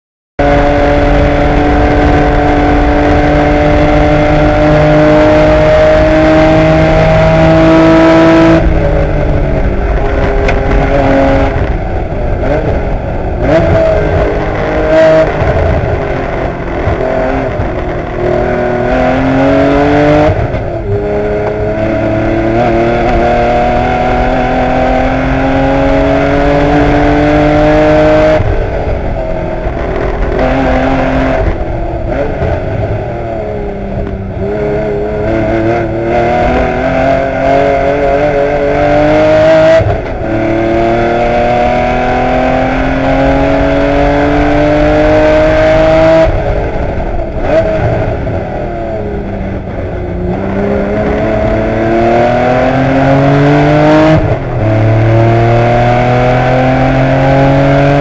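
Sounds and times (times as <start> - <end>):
car engine at racing speed: 0.4 - 58.0.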